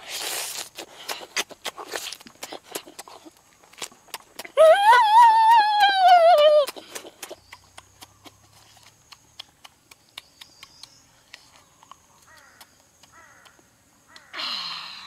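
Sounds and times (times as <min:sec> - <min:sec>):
child chewing and smacking: 0:00.0 - 0:14.3.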